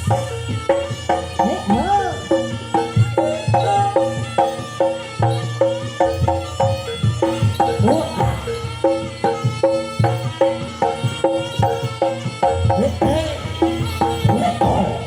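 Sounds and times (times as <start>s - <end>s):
drum strokes: 0.0s - 15.0s
pitched struck percussion notes: 0.0s - 15.0s.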